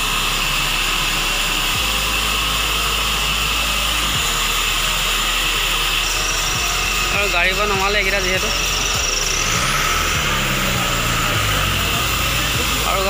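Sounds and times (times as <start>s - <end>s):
band saw whirring: 0.0s - 13.0s.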